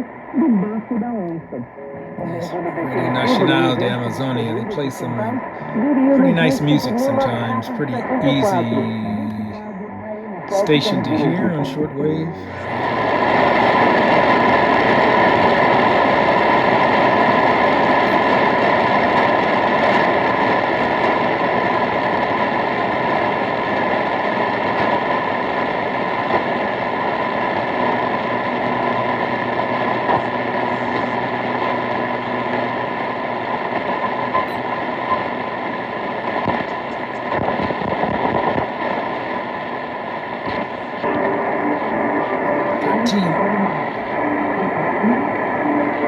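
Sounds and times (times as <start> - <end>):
radio static hiss: 0.0 - 46.0.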